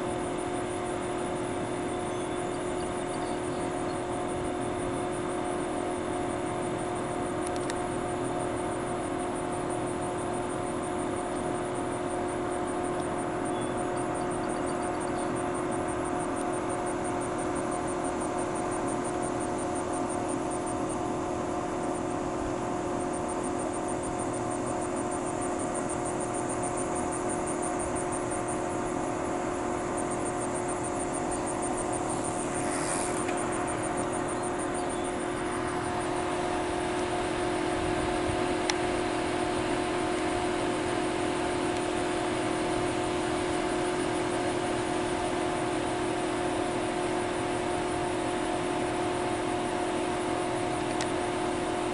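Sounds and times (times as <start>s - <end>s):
high pulsing insect chirp: 0.0s - 51.9s
steady mechanical hum: 0.0s - 51.9s.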